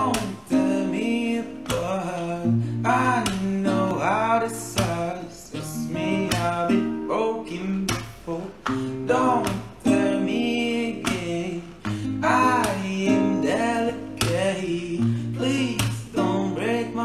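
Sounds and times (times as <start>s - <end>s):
man singing melismatically: 0.0s - 17.0s
strummed acoustic guitar: 0.0s - 17.0s.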